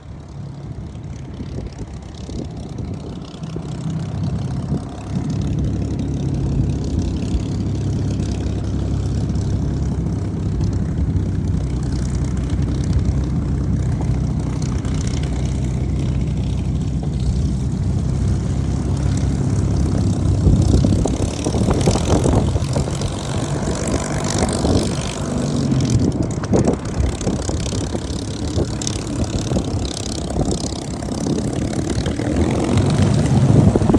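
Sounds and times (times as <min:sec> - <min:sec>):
propeller plane engine running: 0:00.0 - 0:33.9.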